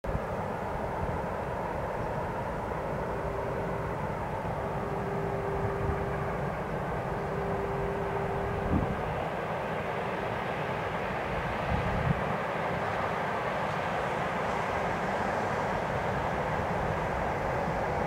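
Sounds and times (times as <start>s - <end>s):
diesel locomotive idling: 0.0s - 18.0s
faint steady tone: 0.1s - 18.0s.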